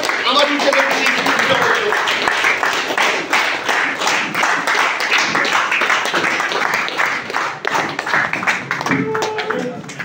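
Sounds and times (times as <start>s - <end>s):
people clapping in a steady beat: 0.0s - 10.0s.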